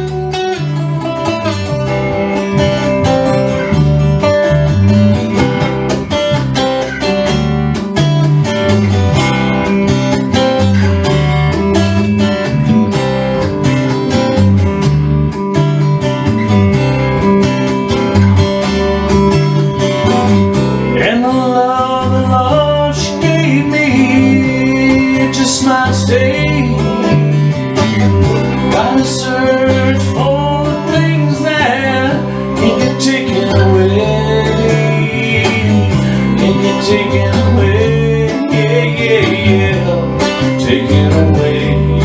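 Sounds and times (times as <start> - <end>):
country song with acoustic guitar: 0.0 - 42.0.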